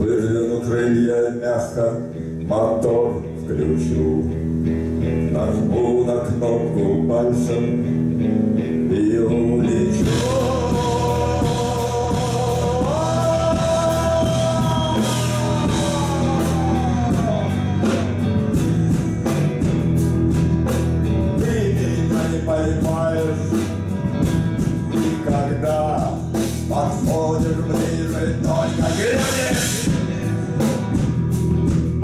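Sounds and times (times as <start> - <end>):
bass guitar: 0.0 - 32.0
drums: 0.0 - 32.0
electric guitar lead: 1.9 - 32.0.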